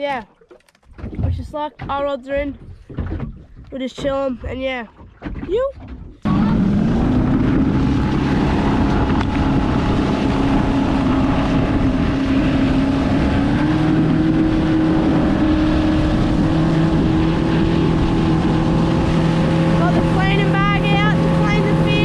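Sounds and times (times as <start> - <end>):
outboard motor running: 0.0 - 22.0
rush of wind and water: 0.0 - 22.0.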